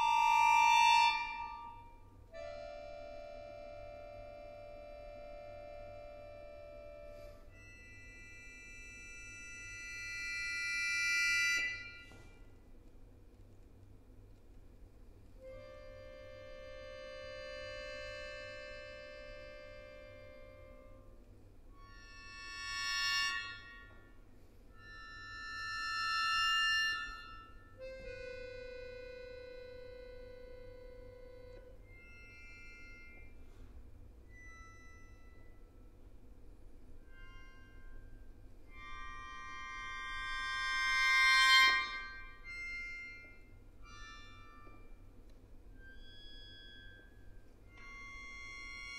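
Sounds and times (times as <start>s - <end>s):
accordion high sustained notes: 0.0s - 12.6s, 15.3s - 48.9s
accordion low note: 0.0s - 12.6s, 15.4s - 48.9s.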